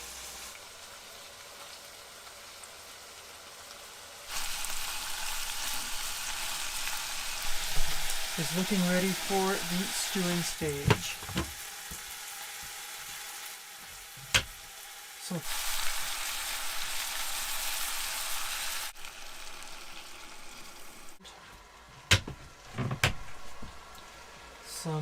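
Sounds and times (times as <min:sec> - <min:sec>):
meat sizzling in a pan: 0:00.0 - 0:21.2.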